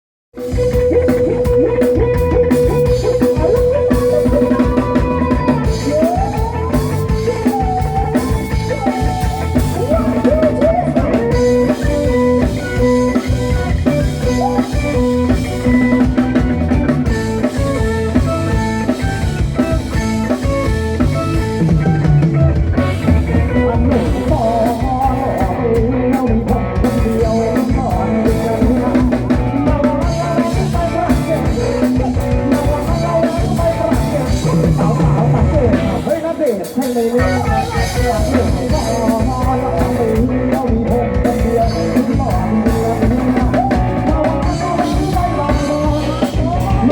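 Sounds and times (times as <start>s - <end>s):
upbeat rock band music: 0.3s - 46.9s
sliding lead melody: 0.4s - 36.2s, 37.0s - 46.9s.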